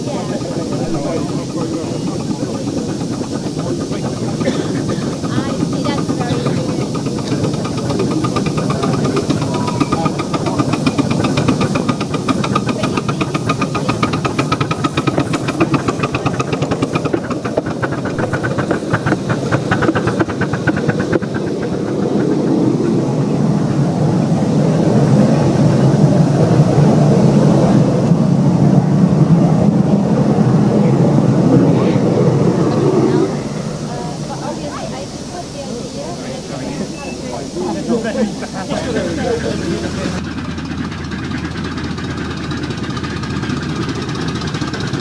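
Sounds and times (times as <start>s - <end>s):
steam hissing: 0.0s - 45.0s
steam locomotive exhaust beat: 0.0s - 45.0s
train rumbling past: 0.0s - 45.0s.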